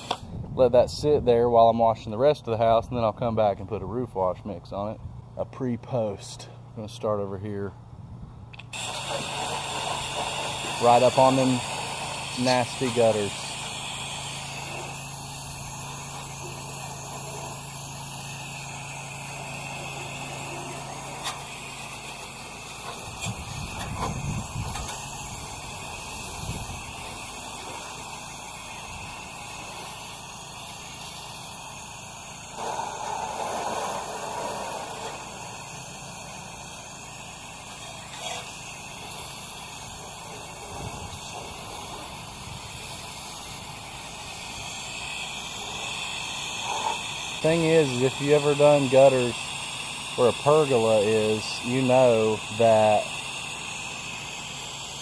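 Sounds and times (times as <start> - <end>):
pressure washer spraying water: 0.0 - 0.2, 8.7 - 55.0.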